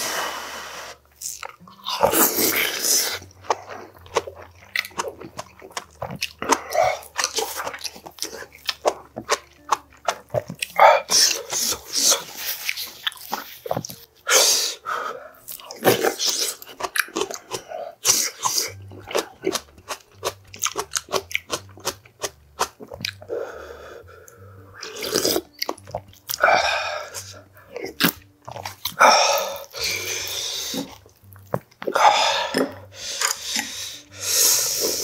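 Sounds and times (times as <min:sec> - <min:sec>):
wet chewing: 0:01.1 - 0:35.0.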